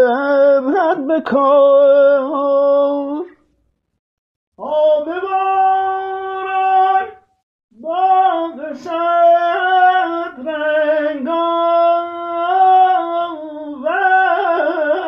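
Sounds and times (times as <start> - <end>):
person singing unaccompanied: 0.0 - 3.4, 4.6 - 15.0.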